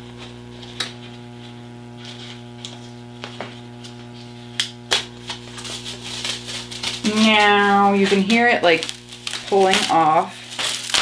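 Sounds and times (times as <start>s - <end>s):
electrical hum: 0.0s - 11.0s
transfer paper peeling crackles: 0.2s - 11.0s.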